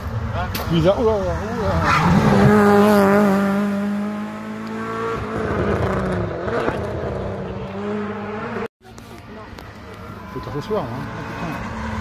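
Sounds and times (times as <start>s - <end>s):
rougher car engine: 0.0s - 12.0s.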